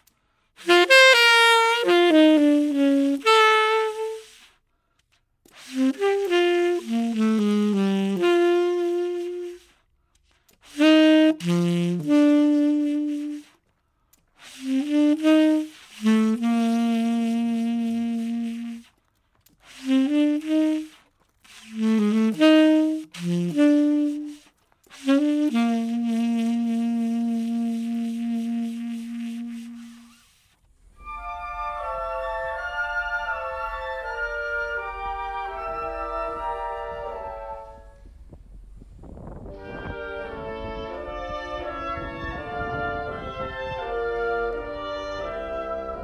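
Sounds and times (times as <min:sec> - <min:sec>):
solo saxophone playing: 0:00.0 - 0:04.6, 0:05.4 - 0:09.8, 0:10.6 - 0:13.6, 0:14.4 - 0:19.0, 0:19.6 - 0:38.1, 0:39.4 - 0:46.0.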